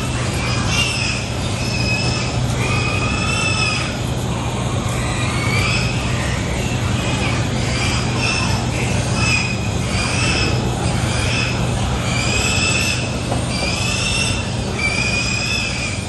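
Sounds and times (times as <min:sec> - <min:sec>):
pigs squealing: 0:00.0 - 0:16.0.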